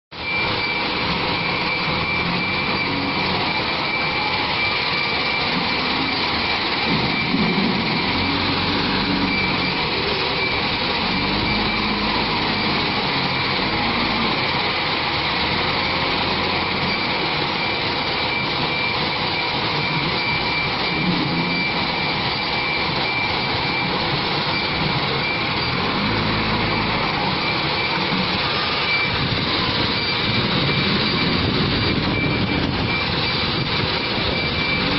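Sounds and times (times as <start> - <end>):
diesel engine working: 0.1 - 34.9
steady high whine: 0.1 - 34.9.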